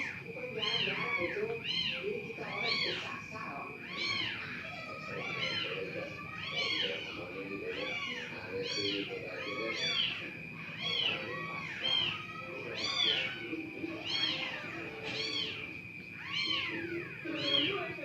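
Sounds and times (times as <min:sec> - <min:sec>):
cat mewing: 0:00.0 - 0:18.0.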